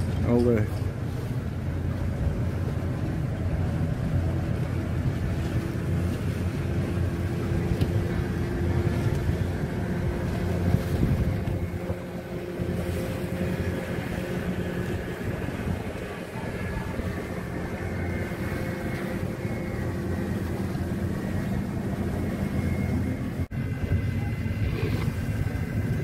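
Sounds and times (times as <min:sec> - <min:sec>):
boat diesel engine humming: 0:00.0 - 0:26.0
wind on microphone: 0:00.0 - 0:26.0.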